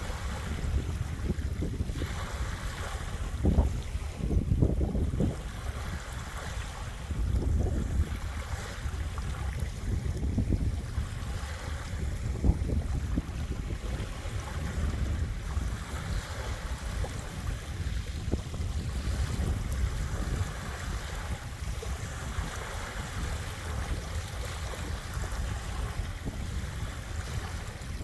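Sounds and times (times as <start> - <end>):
small waves washing onto shore: 0.0 - 28.0
wind rumble on microphone: 0.0 - 28.0.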